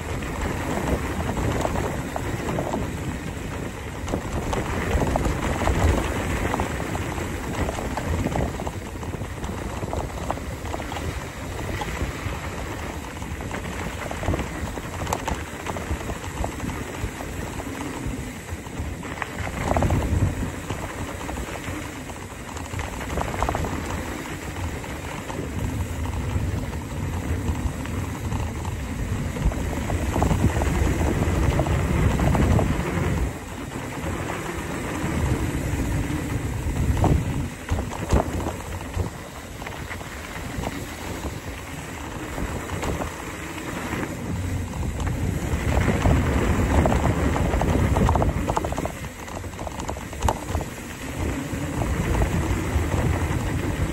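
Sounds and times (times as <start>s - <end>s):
bike knocks and rattles: 0.0s - 53.9s
tyres rolling over dirt trail: 0.0s - 53.9s
wind rushing over microphone: 0.0s - 53.9s.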